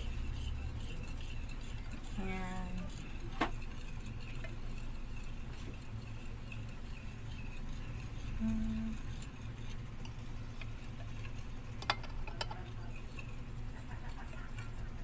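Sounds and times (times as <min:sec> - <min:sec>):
low steady hum: 0:00.0 - 0:15.0
utensil tapping mixing bowl: 0:00.0 - 0:15.0.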